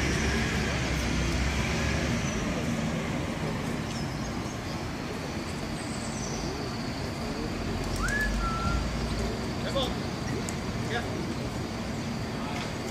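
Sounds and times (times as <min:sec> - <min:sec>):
city traffic hum: 0:00.0 - 0:12.9.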